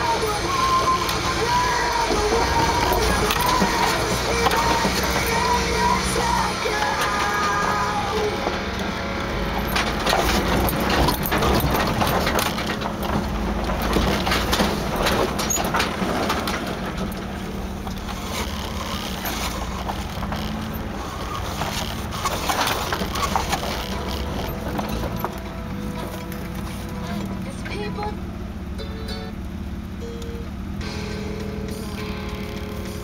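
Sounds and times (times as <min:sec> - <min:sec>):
rocks crunching under tyres: 0:00.0 - 0:27.6
engine running low and steady: 0:00.0 - 0:33.0.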